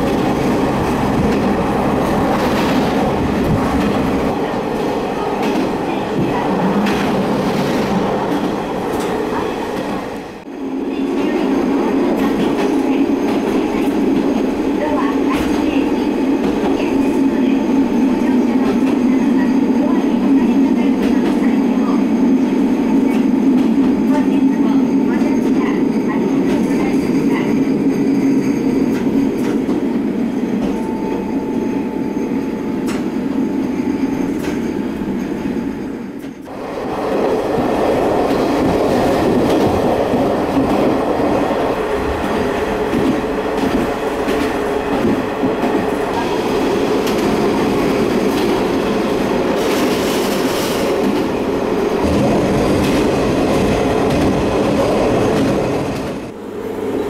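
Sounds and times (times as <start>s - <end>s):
train running rumble: 0.0s - 57.0s.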